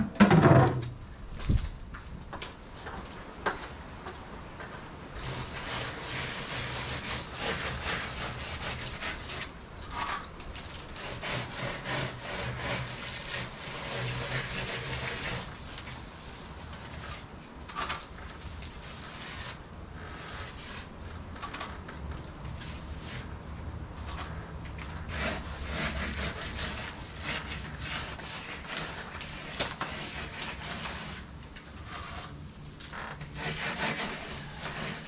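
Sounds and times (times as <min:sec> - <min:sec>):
trowel scraping wet plaster: 0:05.2 - 0:23.4, 0:24.0 - 0:35.0.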